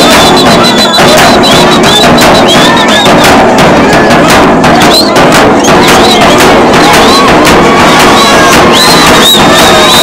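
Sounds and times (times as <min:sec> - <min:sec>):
crowd voices: 0:00.0 - 0:10.0
drum beating steady rhythm: 0:00.0 - 0:10.0
people clapping: 0:00.0 - 0:10.0.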